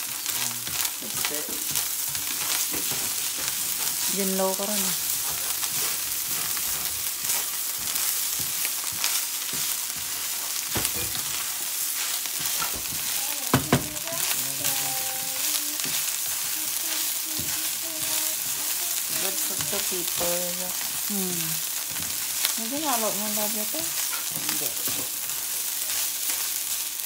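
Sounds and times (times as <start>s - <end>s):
fried rice sizzling in a pan: 0.0s - 27.0s.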